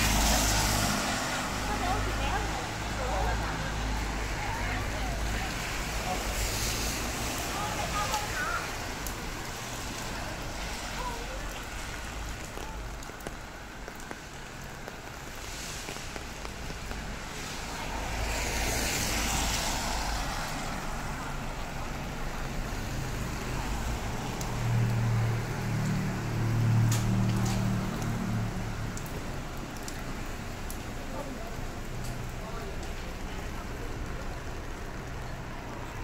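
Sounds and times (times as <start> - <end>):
rain hiss on wet road: 0.0 - 36.0
vehicle passing on wet road: 0.0 - 36.0.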